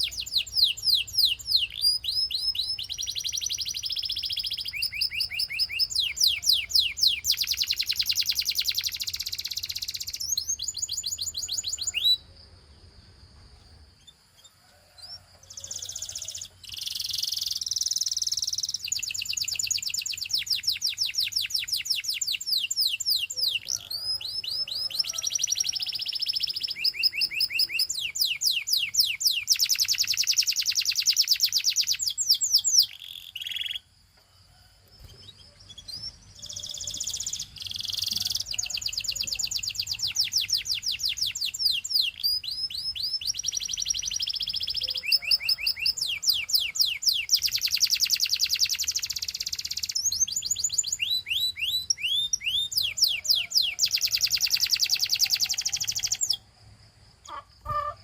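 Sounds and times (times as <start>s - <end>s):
canary singing trills: 0.0s - 12.7s, 13.6s - 34.0s, 34.9s - 56.6s, 57.2s - 58.0s.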